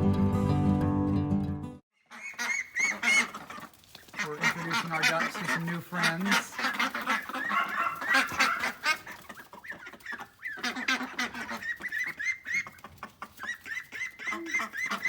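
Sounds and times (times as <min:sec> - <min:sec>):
chickens and ducks clucking: 0:02.0 - 0:15.0.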